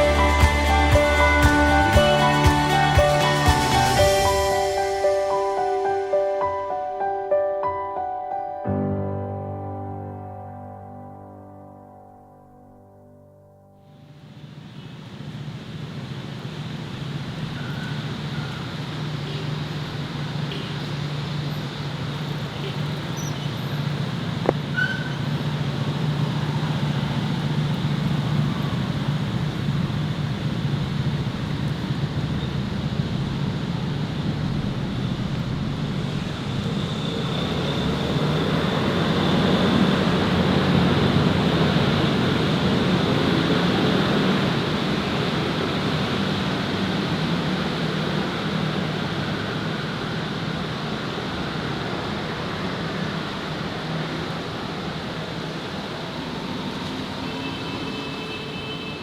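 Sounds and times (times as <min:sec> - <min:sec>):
road traffic hum: 0:00.0 - 0:07.1, 0:13.9 - 0:59.0.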